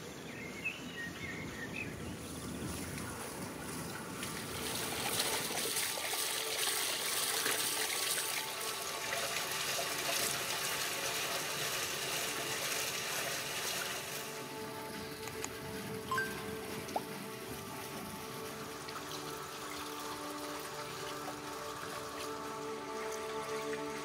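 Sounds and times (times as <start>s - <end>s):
water running from spout: 2.3s - 24.0s.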